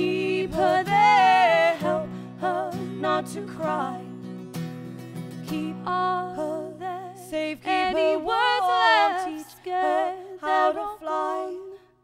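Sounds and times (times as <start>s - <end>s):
women singing together: 0.0s - 4.1s, 5.5s - 12.0s.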